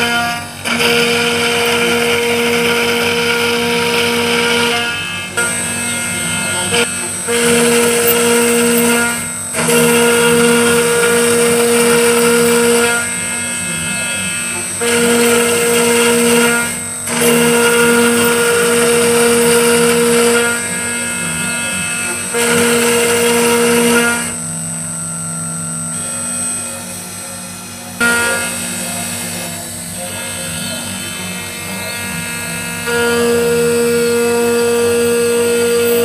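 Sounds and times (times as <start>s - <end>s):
cutter milling metal: 0.0s - 36.0s
router spindle whining: 0.0s - 36.0s.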